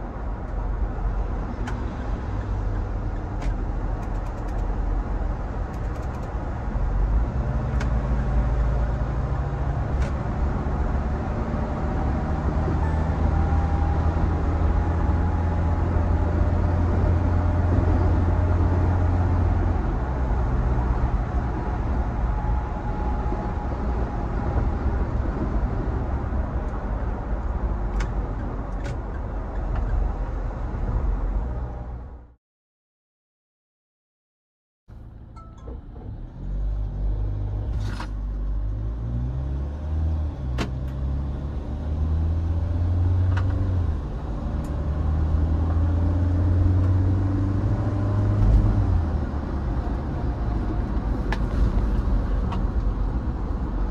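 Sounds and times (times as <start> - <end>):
road noise: 0.0 - 32.4, 34.9 - 53.9.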